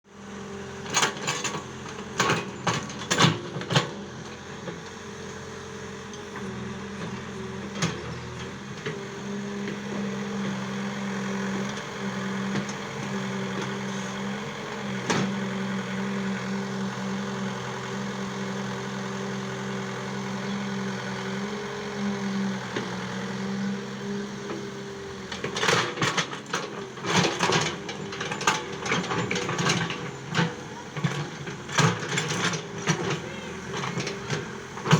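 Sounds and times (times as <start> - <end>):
excavator engine running: 0.1 - 34.9.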